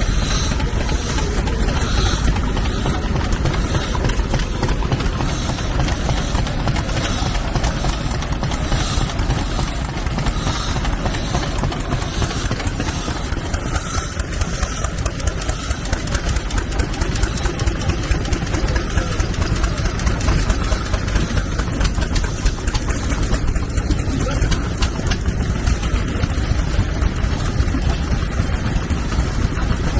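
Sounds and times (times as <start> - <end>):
old stationary engine running: 0.0 - 29.9.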